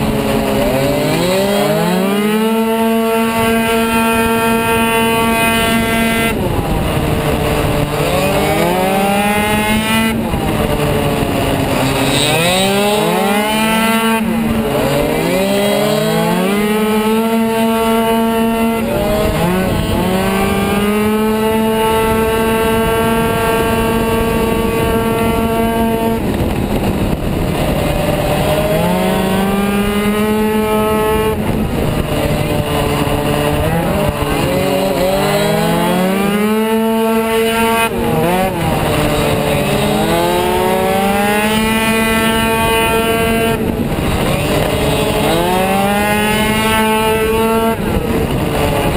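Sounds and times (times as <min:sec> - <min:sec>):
two-stroke scooter engine racing: 0:00.0 - 0:48.9.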